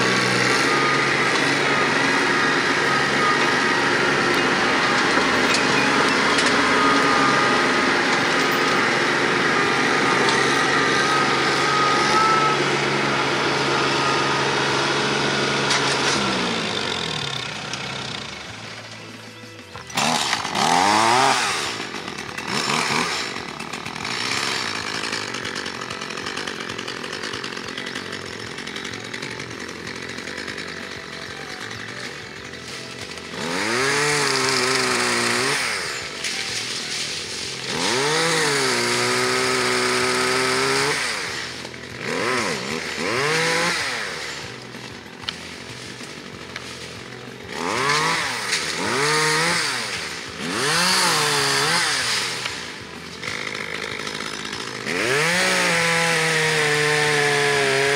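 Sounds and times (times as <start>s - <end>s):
chainsaw cutting brush: 0.0s - 57.9s
chainsaw revving and idling: 0.0s - 57.9s
engine winding down: 0.0s - 57.9s.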